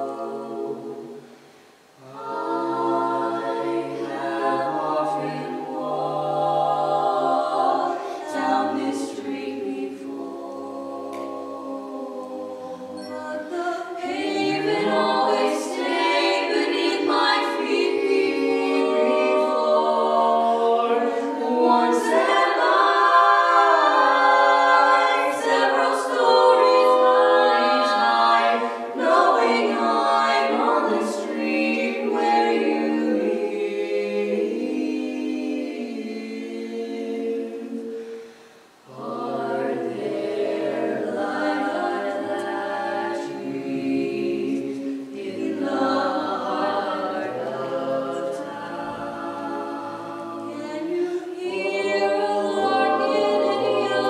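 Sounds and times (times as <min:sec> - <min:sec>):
vocal quartet singing a cappella: 0:00.0 - 0:54.0.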